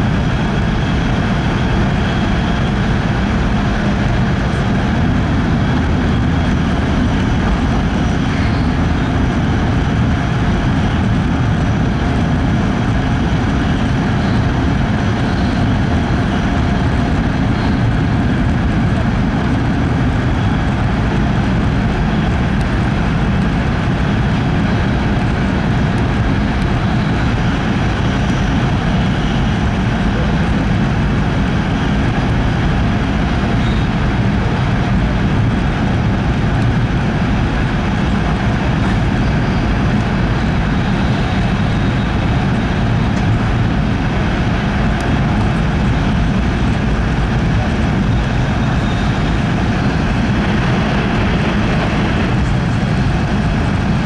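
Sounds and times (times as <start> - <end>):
train cabin rumble and hiss: 0.0 - 54.0.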